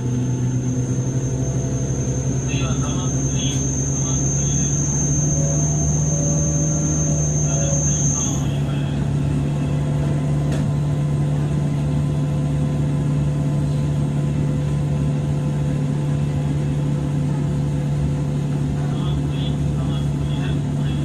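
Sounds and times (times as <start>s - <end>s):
electric train hum: 0.0s - 21.0s.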